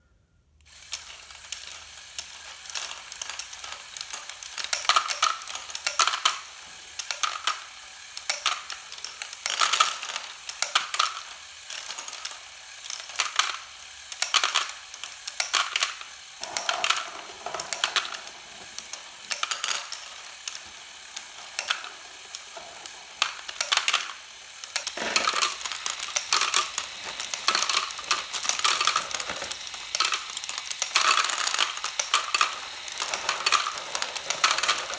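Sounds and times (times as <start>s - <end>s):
plastic conveyor and balls clicking: 0.7s - 34.9s.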